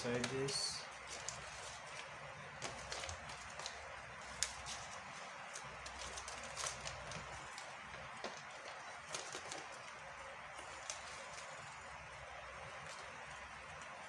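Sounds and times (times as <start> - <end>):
paper crinkling: 0.0 - 14.0.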